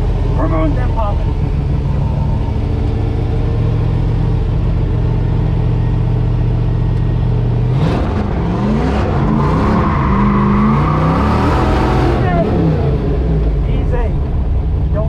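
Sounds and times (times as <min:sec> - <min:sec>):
truck engine revving: 0:00.0 - 0:14.9.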